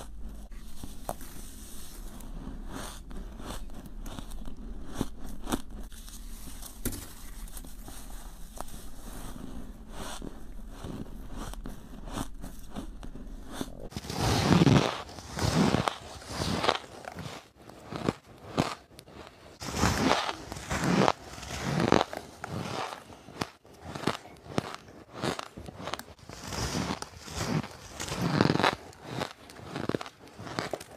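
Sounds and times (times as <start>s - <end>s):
person crunching ice: 0.0s - 30.9s.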